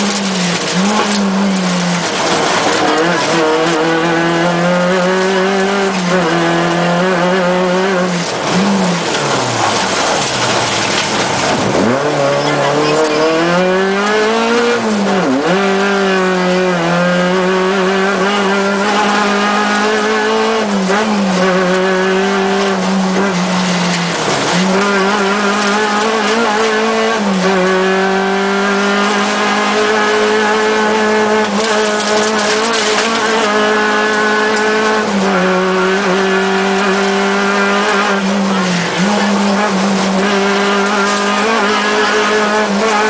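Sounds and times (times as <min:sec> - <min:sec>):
car engine revving high: 0:00.0 - 0:43.0.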